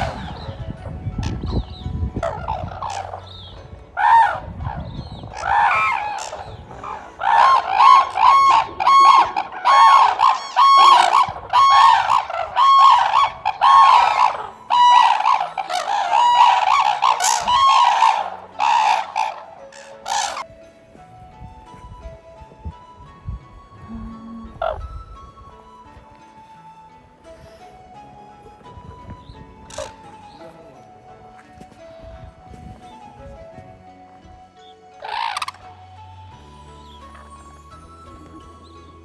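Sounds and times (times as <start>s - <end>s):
cranes trumpeting calls: 0.0s - 20.7s, 23.8s - 39.0s.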